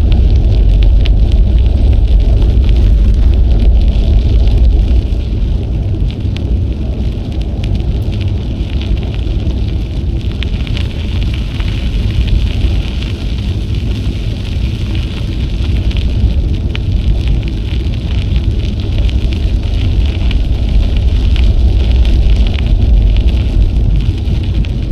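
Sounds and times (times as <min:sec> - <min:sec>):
bicycle rolling noise: 0:00.0 - 0:24.9
wind buffeting microphone: 0:00.0 - 0:24.9.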